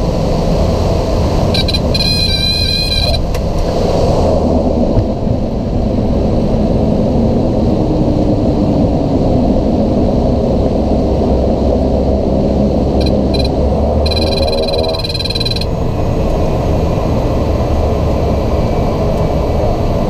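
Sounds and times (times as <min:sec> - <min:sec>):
turboprop engine rumbling: 0:00.0 - 0:20.0.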